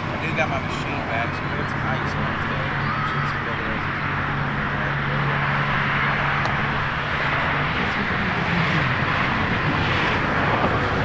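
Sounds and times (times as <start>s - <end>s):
low engine hum: 0.0s - 11.0s
road traffic roar: 0.0s - 11.0s.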